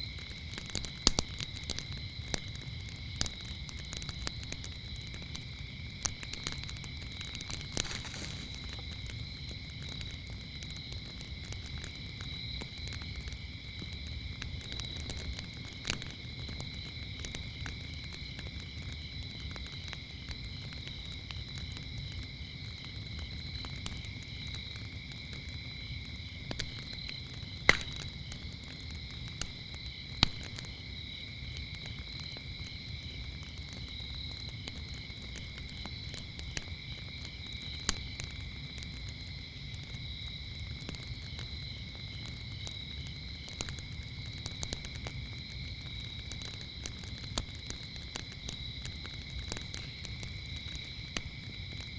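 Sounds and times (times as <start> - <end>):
crickets chirping: 0.0 - 51.9
fire popping: 0.0 - 51.9
wood fire crackling: 0.0 - 51.9.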